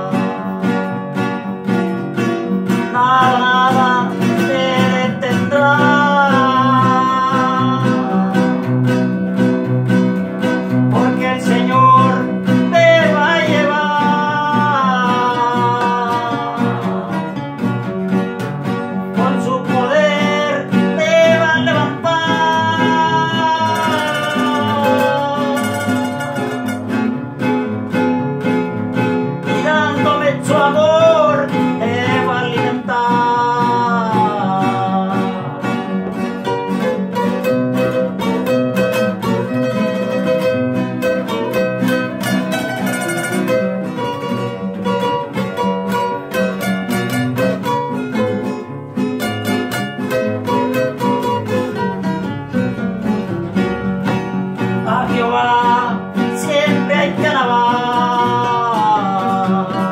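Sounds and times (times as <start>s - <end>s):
man singing: 0.0s - 1.4s, 2.2s - 9.5s, 10.4s - 18.2s, 18.9s - 27.2s, 29.4s - 45.7s, 52.5s - 59.9s
acoustic guitars playing: 0.0s - 59.9s.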